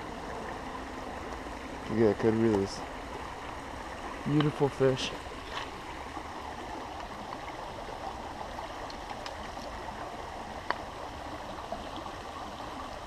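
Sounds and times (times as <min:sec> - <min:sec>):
small creek running: 0:00.0 - 0:13.0.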